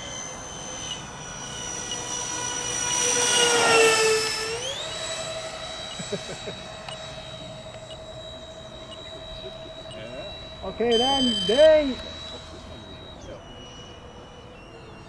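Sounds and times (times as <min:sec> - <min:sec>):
model plane electric fans whining: 0:00.0 - 0:15.0.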